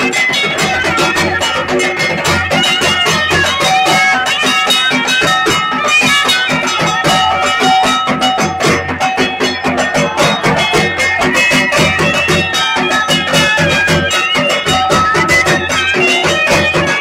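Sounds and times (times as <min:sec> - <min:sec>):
fast drum beat: 0:00.0 - 0:17.0.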